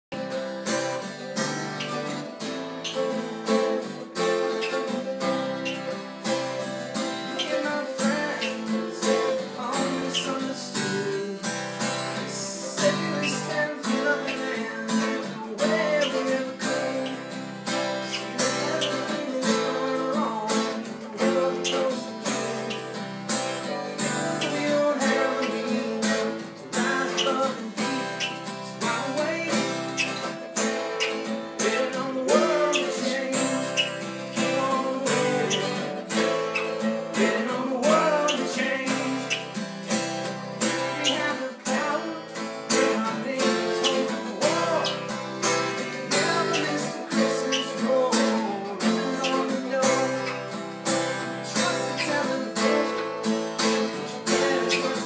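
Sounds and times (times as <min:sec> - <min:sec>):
acoustic guitar strumming: 0:00.1 - 0:55.0.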